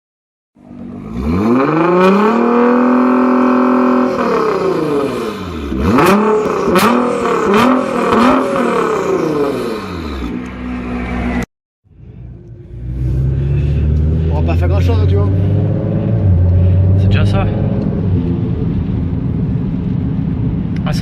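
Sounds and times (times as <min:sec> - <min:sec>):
car engine revving: 0:00.6 - 0:21.0.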